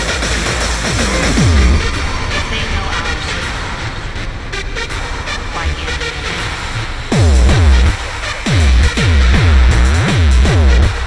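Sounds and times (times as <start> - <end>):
techno music with heavy bass: 0.0 - 11.0.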